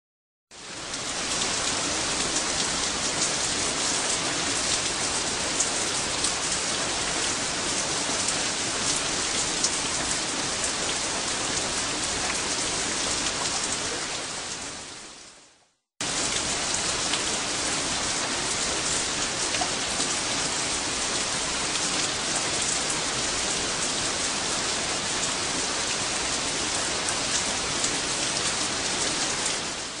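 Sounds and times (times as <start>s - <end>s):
heavy rain: 0.5s - 30.0s.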